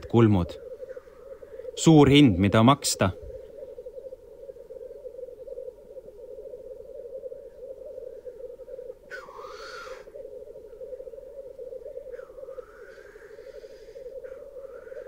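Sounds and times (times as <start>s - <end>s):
grouse bubbling cooing song: 0.0s - 15.0s
grouse hissing call: 0.0s - 15.0s.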